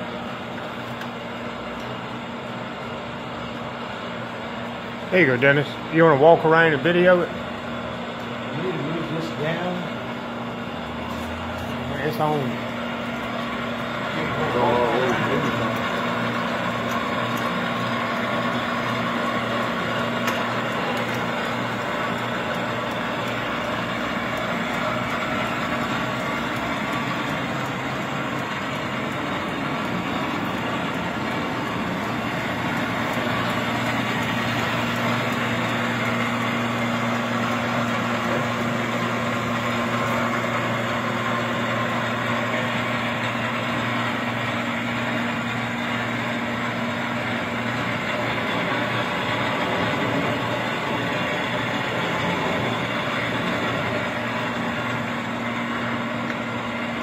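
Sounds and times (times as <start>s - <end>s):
roaster machine hum and rumble: 0.0s - 57.0s.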